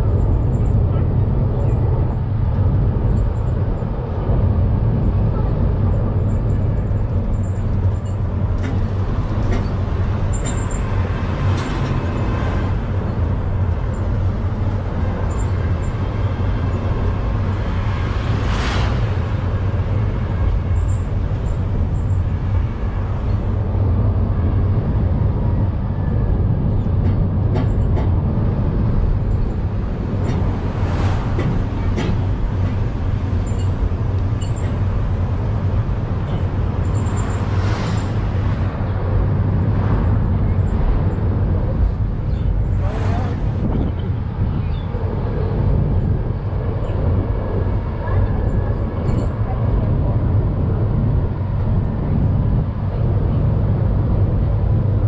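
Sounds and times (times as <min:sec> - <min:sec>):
vehicle engine rumble: 0:00.0 - 0:55.0
wind across open vehicle: 0:00.0 - 0:55.0.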